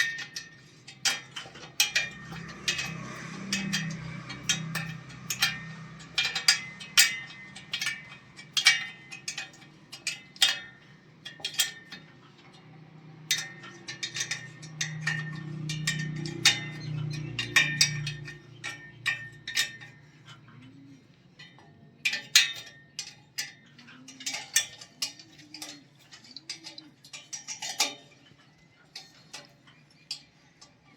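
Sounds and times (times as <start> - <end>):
hand tools clinking on metal: 0.0 - 30.9.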